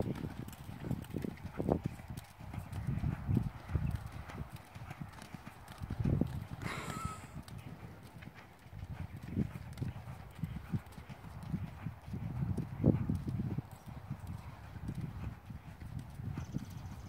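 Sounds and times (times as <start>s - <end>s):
horse hoofbeats on sand: 0.0s - 17.0s.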